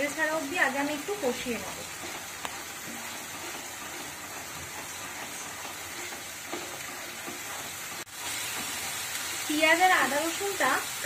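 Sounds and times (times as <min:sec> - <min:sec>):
wooden spatula scraping: 0:00.0 - 0:10.6
paste sizzling in hot oil: 0:00.0 - 0:11.0.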